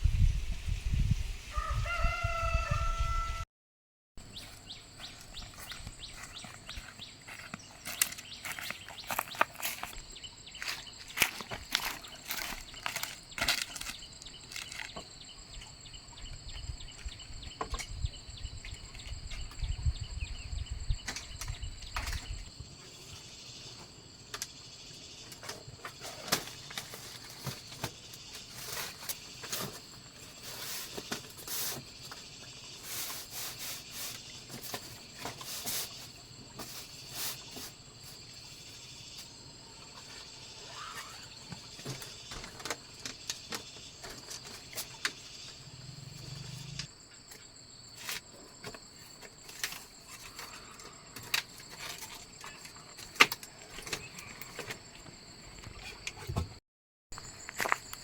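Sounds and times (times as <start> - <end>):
insects chirring: 4.3 - 56.6, 57.2 - 58.0.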